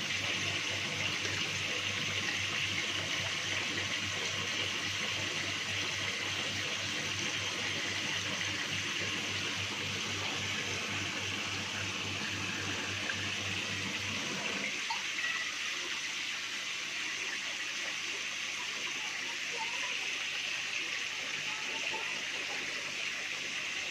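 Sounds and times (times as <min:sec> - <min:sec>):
water pouring into fish tank: 0:00.0 - 0:23.9.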